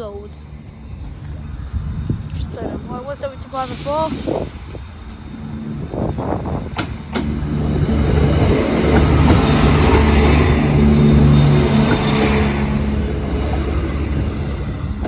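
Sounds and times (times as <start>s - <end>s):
rail noise: 0.0s - 15.0s
train engine drone: 0.0s - 15.0s.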